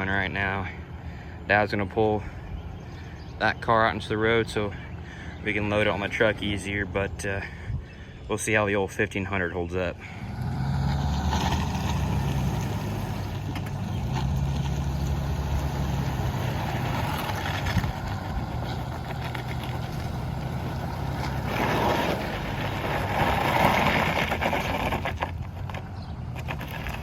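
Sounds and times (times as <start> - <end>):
vehicle engine running: 0.0 - 8.2, 9.9 - 27.0.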